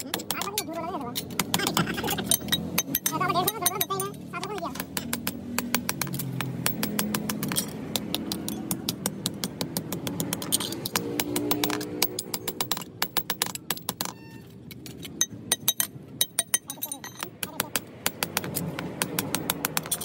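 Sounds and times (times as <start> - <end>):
hammer clinking on steel sheet: 0.0 - 14.3, 15.2 - 20.0.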